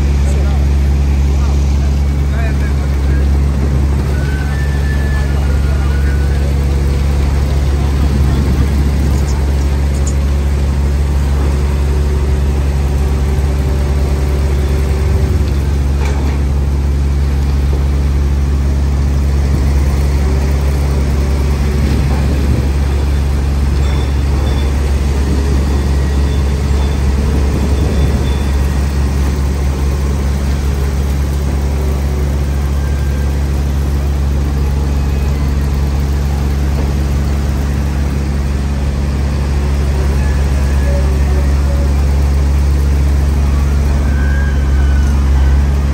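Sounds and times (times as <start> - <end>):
diesel machinery idling: 0.0 - 45.9.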